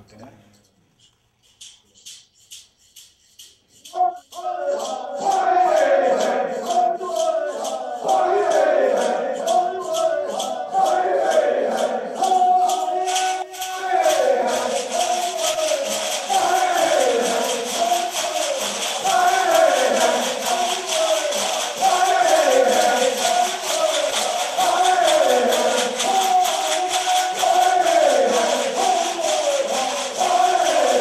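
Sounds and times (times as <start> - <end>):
shaker rattles: 0.0 - 31.0
men singing call and answer: 3.8 - 31.0
dancers chanting back: 3.9 - 31.0.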